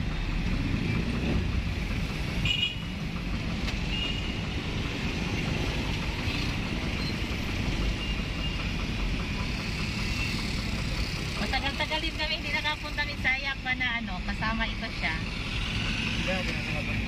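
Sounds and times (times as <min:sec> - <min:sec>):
road noise: 0:00.0 - 0:17.0
street traffic: 0:00.0 - 0:17.0
vehicle engine rumble: 0:00.0 - 0:17.0.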